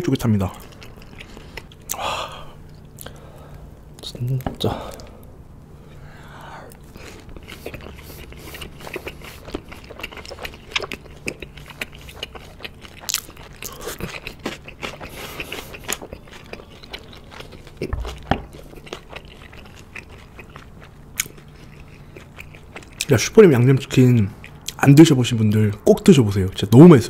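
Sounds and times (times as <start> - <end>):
biting and chewing fried chicken: 0.0 - 5.2, 6.7 - 25.8.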